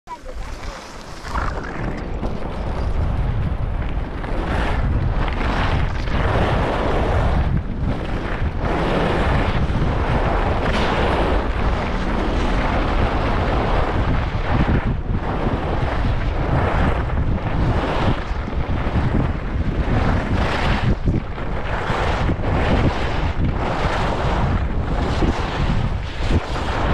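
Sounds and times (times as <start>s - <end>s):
skis scraping on snow: 0.1s - 26.9s
wind buffeting microphone: 0.1s - 26.9s.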